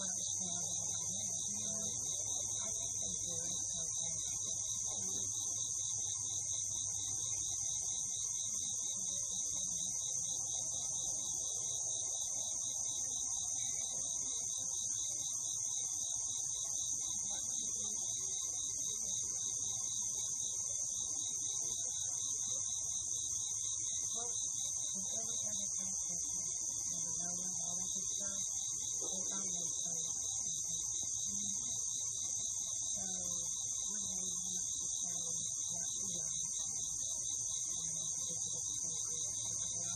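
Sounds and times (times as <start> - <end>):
insect chorus shrilling: 0.0 - 39.9
pulsing insect trill: 0.0 - 39.9.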